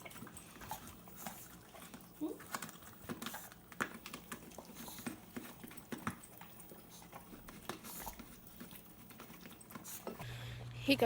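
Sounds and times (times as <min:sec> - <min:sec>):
dogs chewing and crunching: 0:00.0 - 0:10.6.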